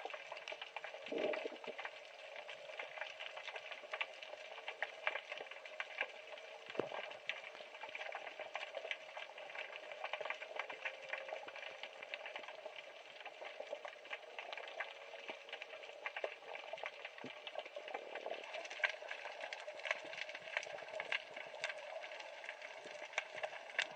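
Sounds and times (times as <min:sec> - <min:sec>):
underwater crackle of clicks: 0:00.0 - 0:23.9.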